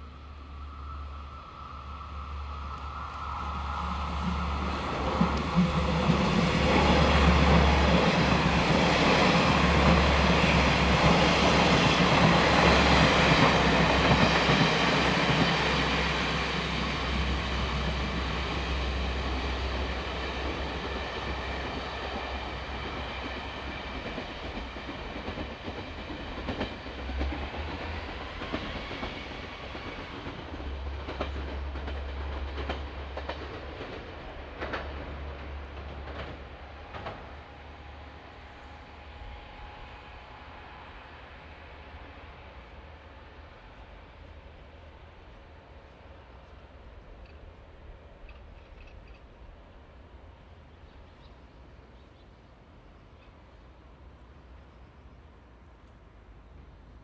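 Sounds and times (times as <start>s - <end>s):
train wheels on rails: 0.0s - 54.1s
diesel train passing: 0.0s - 57.0s.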